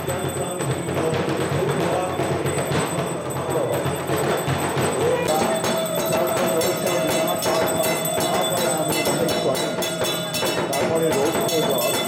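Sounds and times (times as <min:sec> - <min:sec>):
drums: 0:00.0 - 0:12.0
rapid bell strikes: 0:00.0 - 0:12.0
steady held tone: 0:00.0 - 0:12.0.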